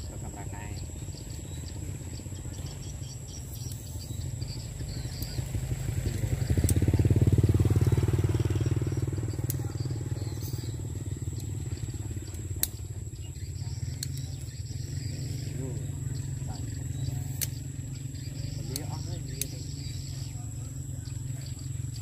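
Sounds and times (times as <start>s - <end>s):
vehicle engine passing by: 0.0s - 22.0s.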